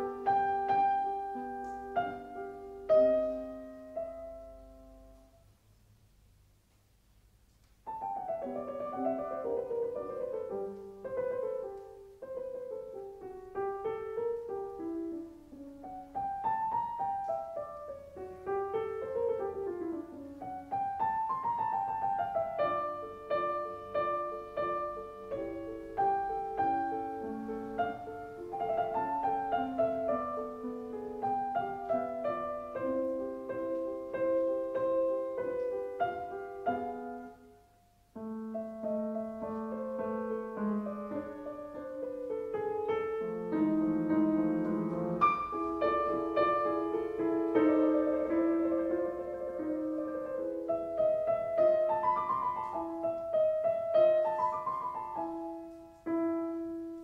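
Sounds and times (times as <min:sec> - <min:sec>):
piano music: 0:00.0 - 0:05.6, 0:07.8 - 0:57.0.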